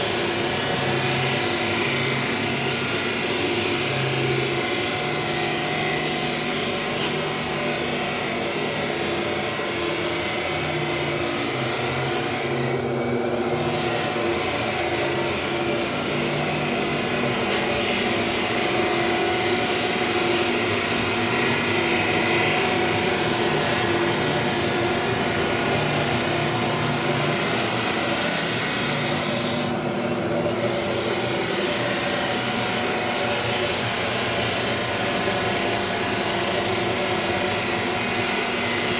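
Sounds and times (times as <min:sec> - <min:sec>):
floor sander motor hum: 0:00.0 - 0:38.9.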